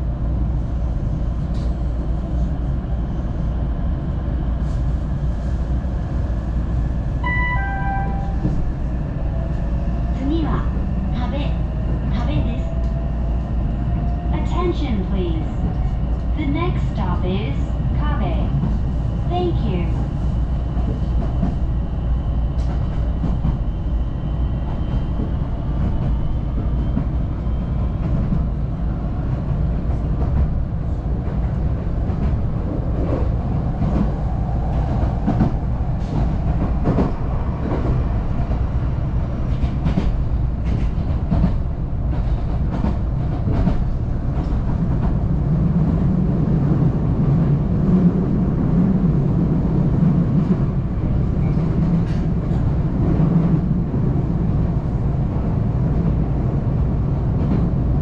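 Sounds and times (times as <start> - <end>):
train interior rumble: 0.0 - 58.0.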